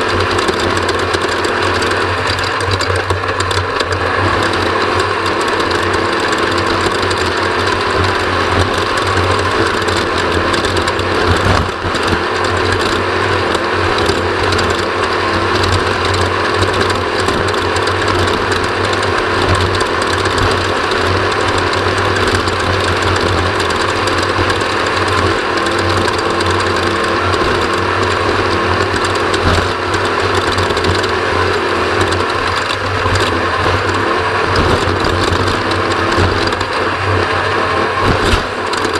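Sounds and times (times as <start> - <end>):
race vehicle engine running: 0.0 - 38.9.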